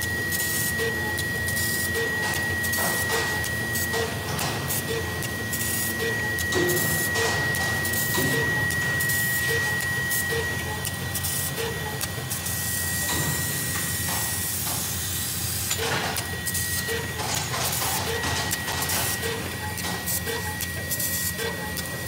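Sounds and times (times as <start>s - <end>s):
laser cutter high whine: 0.0s - 22.0s
short clicks and bursts: 0.0s - 22.0s.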